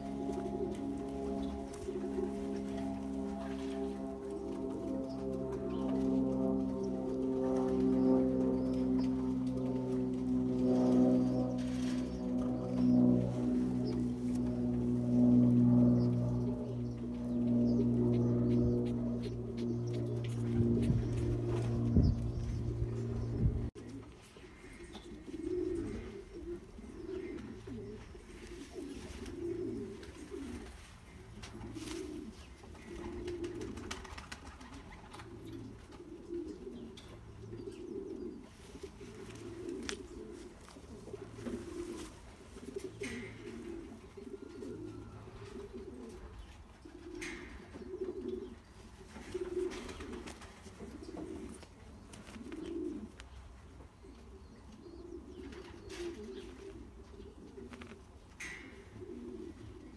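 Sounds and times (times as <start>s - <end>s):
pigeons cooing: 0.0s - 59.9s.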